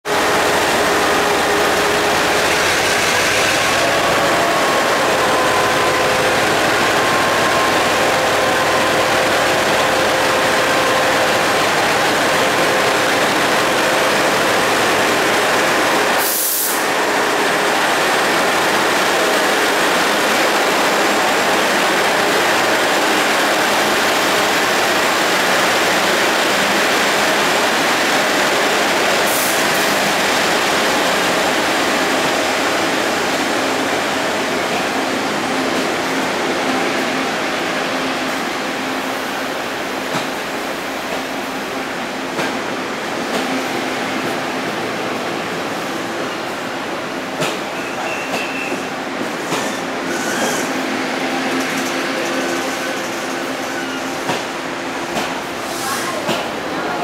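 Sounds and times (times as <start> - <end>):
carriages rolling on rails: 0.1 - 57.0
diesel locomotive engine: 0.1 - 57.0.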